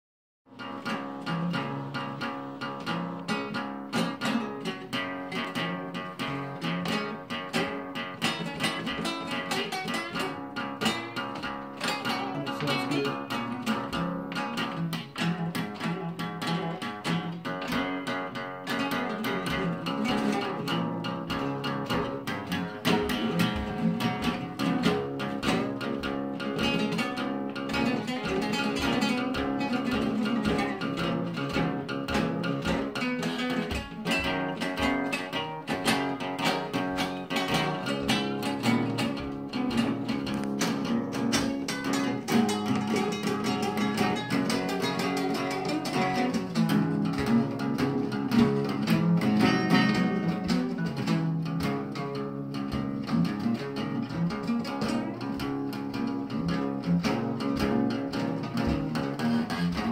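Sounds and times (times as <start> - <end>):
two acoustic guitars playing: 0.5 - 59.9.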